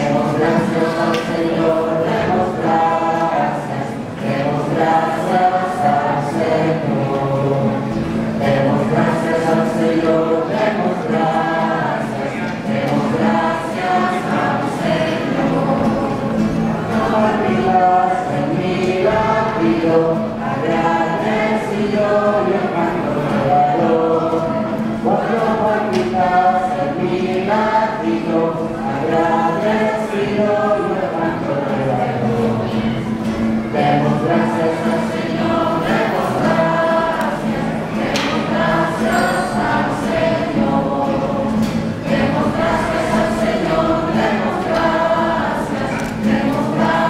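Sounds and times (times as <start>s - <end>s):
church choir singing: 0.0s - 47.0s.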